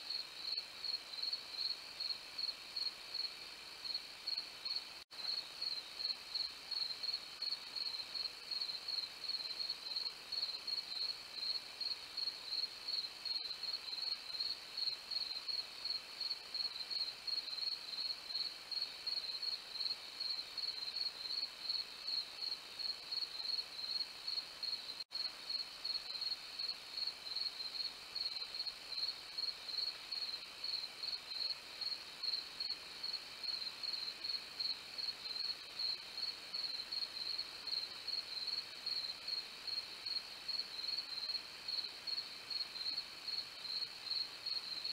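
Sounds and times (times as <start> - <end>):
crickets chirping: 0.1 - 44.9.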